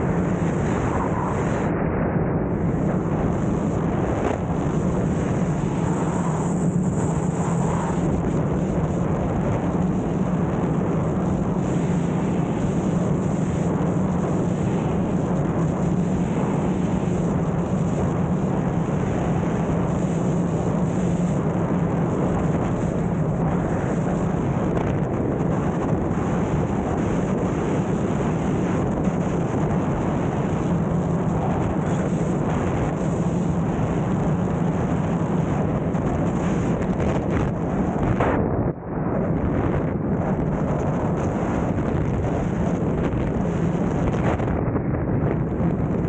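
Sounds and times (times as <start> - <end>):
low drone: 0.0 - 46.0
wind roaring over microphone: 0.0 - 46.0.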